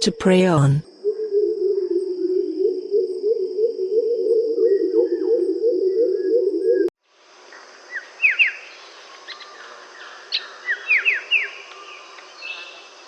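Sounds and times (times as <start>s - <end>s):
forest background: 0.0s - 13.0s.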